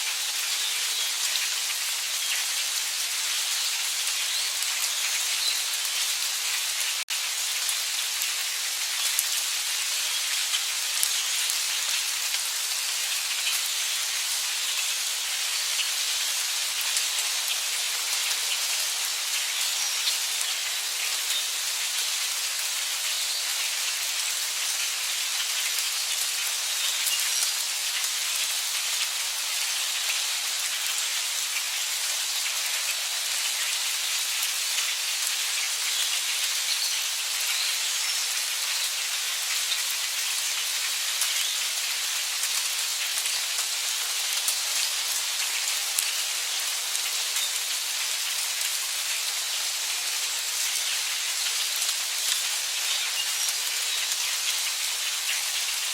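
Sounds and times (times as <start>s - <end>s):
heavy rain hissing: 0.0s - 55.9s.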